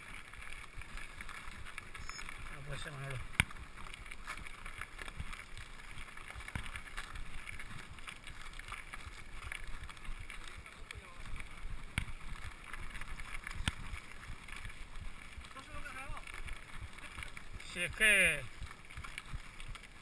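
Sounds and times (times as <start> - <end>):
bike rattling: 0.0 - 20.0
tyres rolling on gravel: 0.0 - 20.0.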